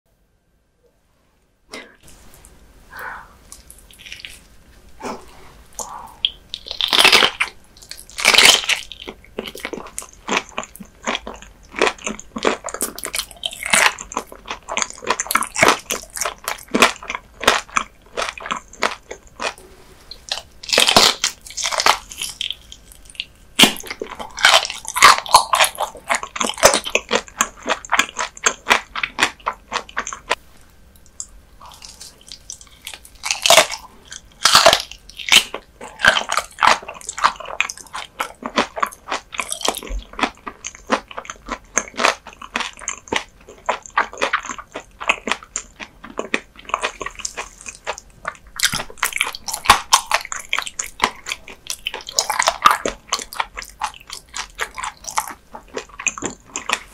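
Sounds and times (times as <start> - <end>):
person chewing crunchy food: 1.7 - 56.9.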